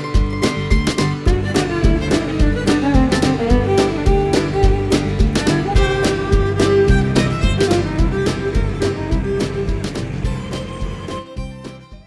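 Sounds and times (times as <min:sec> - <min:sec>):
country music with fiddle and guitar: 0:00.0 - 0:12.0.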